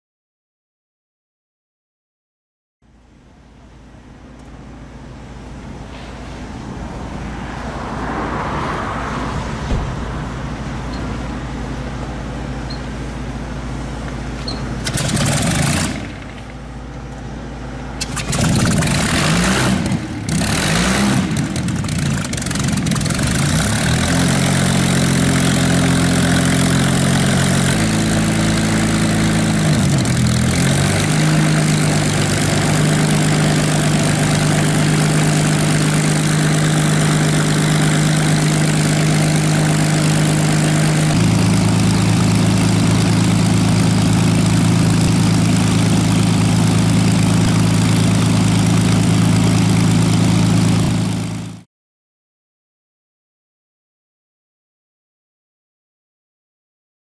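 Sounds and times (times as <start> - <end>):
propeller plane engine running: 2.9 - 51.6.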